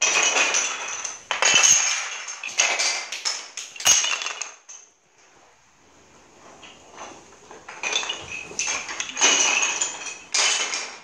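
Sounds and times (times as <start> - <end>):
wooden sticks clattering on floor: 0.0 - 11.0.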